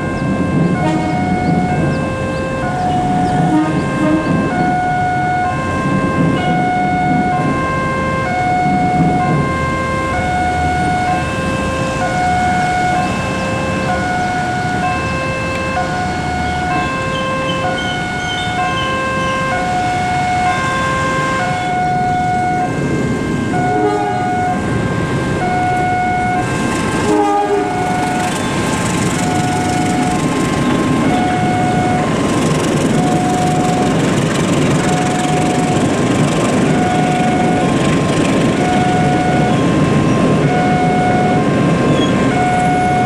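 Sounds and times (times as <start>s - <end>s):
two-tone crossing alarm chime: 0.0s - 7.5s, 8.3s - 24.7s, 29.2s - 32.2s, 32.9s - 34.0s, 34.7s - 36.0s, 36.6s - 37.8s, 38.5s - 43.0s
train rumbling past: 0.0s - 43.0s.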